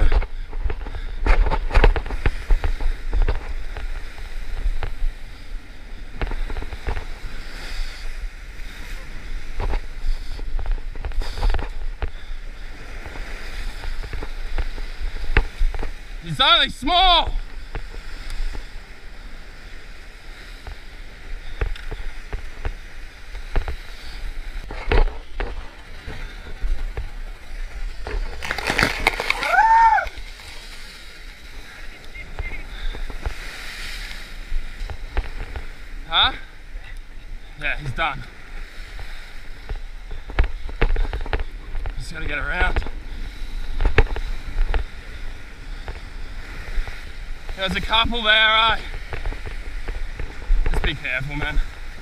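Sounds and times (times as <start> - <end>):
waves washing against rock: 0.0 - 52.0
wind buffeting microphone: 0.0 - 52.0.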